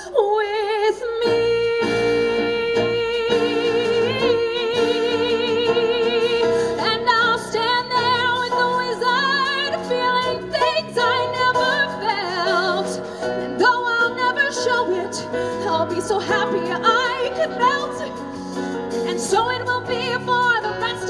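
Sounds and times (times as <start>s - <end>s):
woman singing with vibrato: 0.0s - 21.0s
piano accompaniment: 0.4s - 21.0s.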